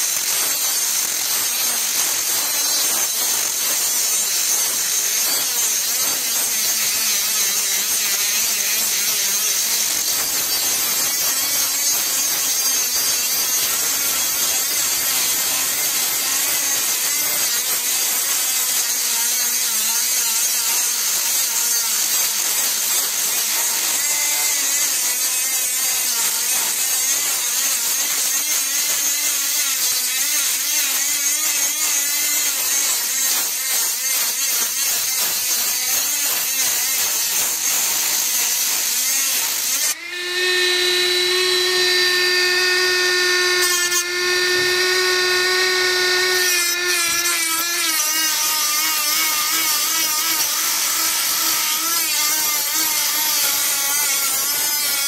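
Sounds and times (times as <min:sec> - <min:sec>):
grinder grinding steel: 0:00.0 - 0:55.0.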